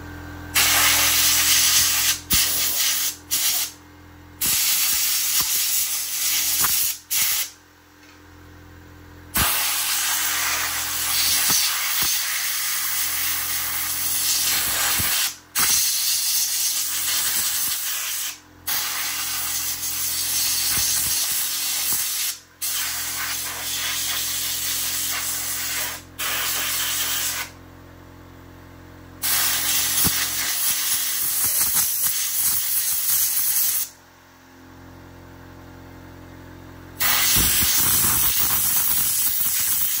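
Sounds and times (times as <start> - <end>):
compressed air hissing bursts: 0.5 - 3.8, 4.4 - 7.5, 9.4 - 27.6, 29.2 - 33.9, 37.0 - 40.0.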